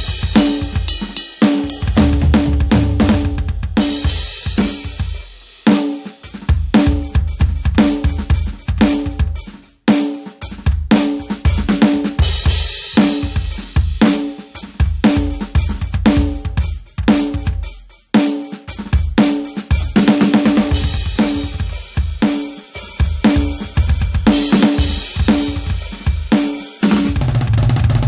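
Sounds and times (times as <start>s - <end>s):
electronic drum kit playing: 0.0s - 28.0s.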